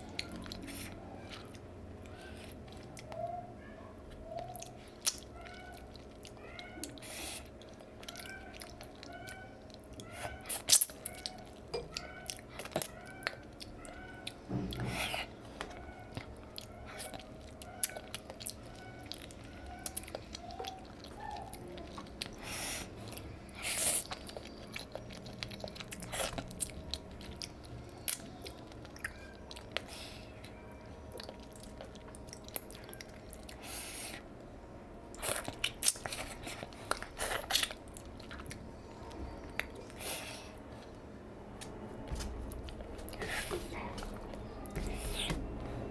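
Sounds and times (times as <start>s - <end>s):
person chewing food: 0.0s - 3.2s, 4.1s - 34.3s, 35.1s - 45.9s.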